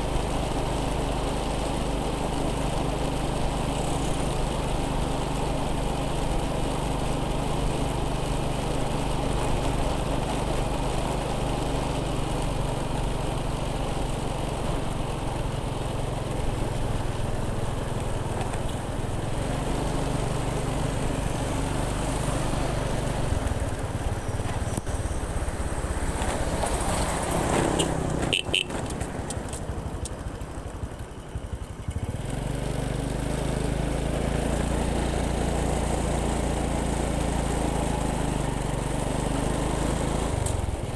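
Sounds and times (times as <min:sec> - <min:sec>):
motorbike engine drone: 0:00.0 - 0:40.9
road and wind noise: 0:00.0 - 0:40.9.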